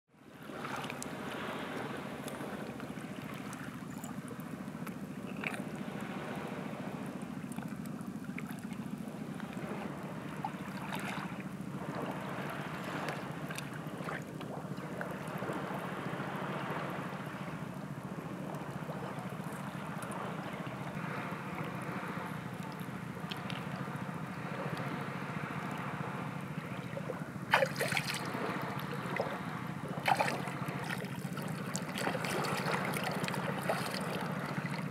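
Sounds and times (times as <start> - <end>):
steady low hum: 0.2 - 34.9
water lapping at shoreline: 0.2 - 34.9.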